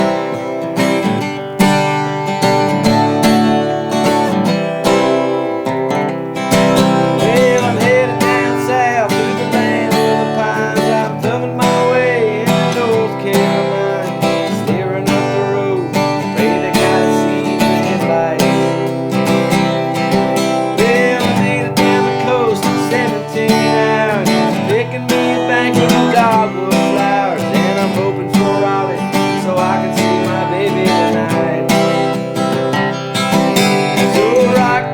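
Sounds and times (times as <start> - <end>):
strummed acoustic guitar music: 0.0 - 34.9.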